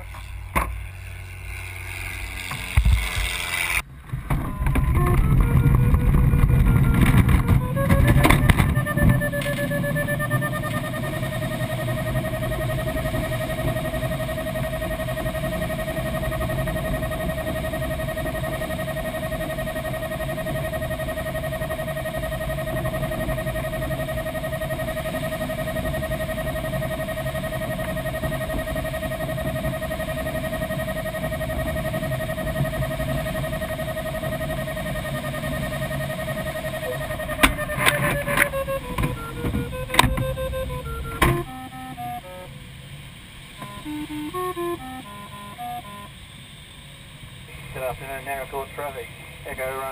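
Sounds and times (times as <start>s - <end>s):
airflow rushing around glider canopy: 0.0s - 41.2s
steady tone: 0.0s - 49.9s.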